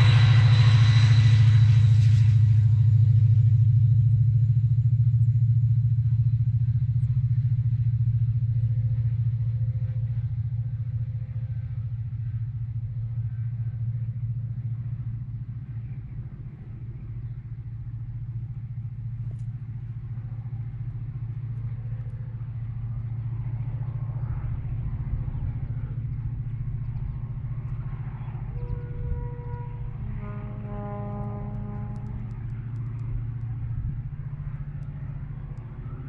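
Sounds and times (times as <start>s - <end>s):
diesel locomotive engines rumbling: 0.0s - 36.0s.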